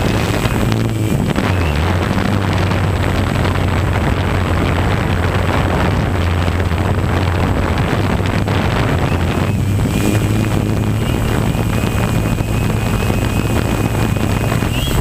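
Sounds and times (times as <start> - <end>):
drone motors and propellers humming: 0.0 - 15.0
wind rushing over microphone: 0.0 - 15.0.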